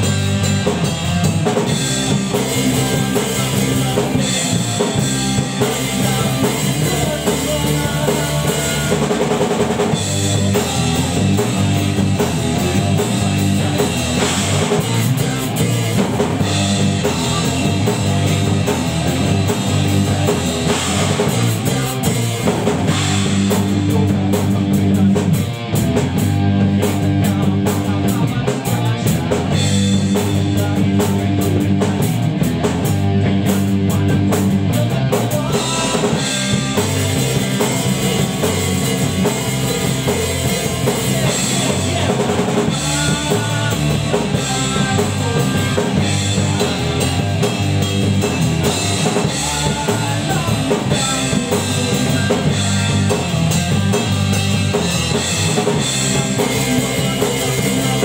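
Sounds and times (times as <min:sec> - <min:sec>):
distorted electric guitar: 0:00.0 - 0:58.0
drum kit beat: 0:00.0 - 0:58.0
electric bass: 0:00.0 - 0:58.0.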